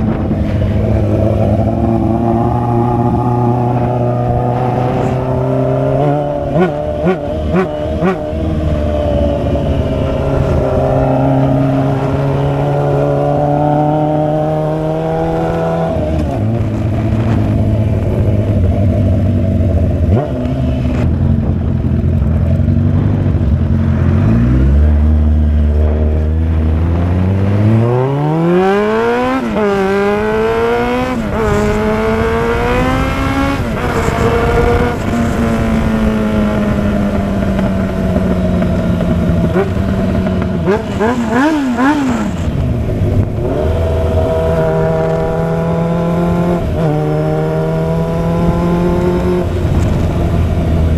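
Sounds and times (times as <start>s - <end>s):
motorcycle engine revving: 0.0s - 50.9s
motorcycle gear upshifts: 0.0s - 50.9s.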